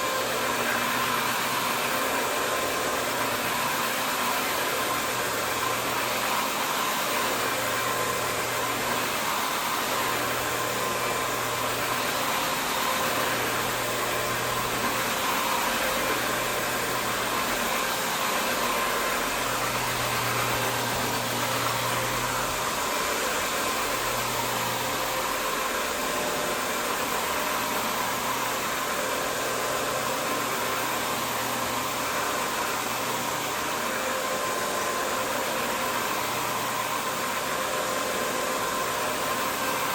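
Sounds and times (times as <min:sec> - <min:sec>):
cleaning machine motor hissing: 0:00.0 - 0:39.9.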